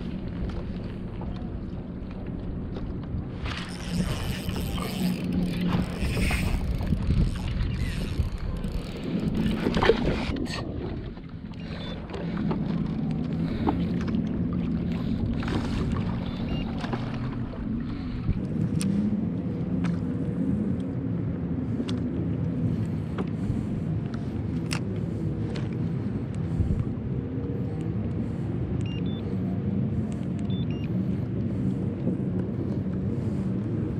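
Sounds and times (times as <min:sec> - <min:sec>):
boat motor humming: 0:00.0 - 0:33.9
rush of wind and water: 0:00.0 - 0:33.9.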